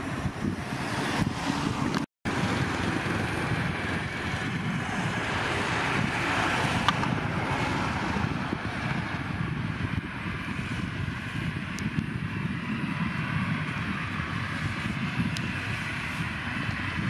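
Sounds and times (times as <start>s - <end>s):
jet engines at taxi power: 0.0s - 17.0s.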